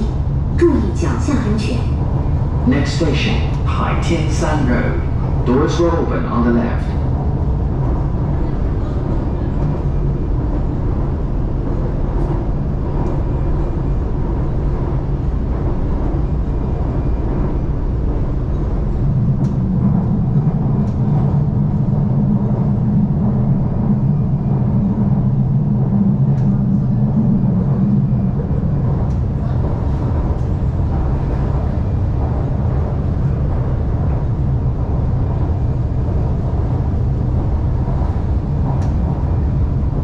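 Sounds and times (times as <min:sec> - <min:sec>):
low hum: 0:00.0 - 0:40.0
train wheels rumbling on rail: 0:00.0 - 0:40.0.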